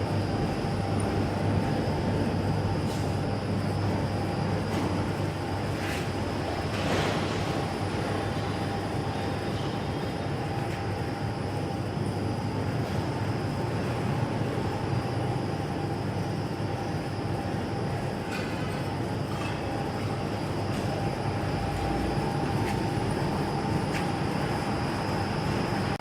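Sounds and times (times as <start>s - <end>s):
constant machine whine: 0.0s - 26.0s.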